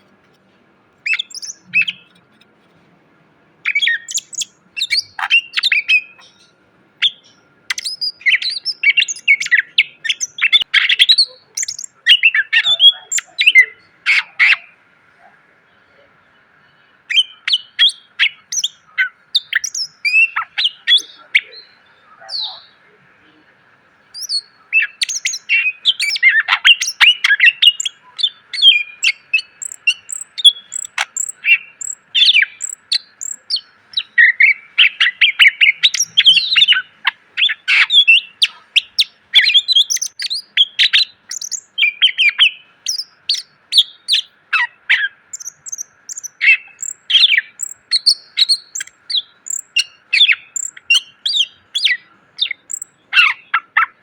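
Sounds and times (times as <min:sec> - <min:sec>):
bird singing chirps and trills: 0:01.0 - 0:02.5, 0:03.6 - 0:14.8, 0:15.6 - 0:54.0.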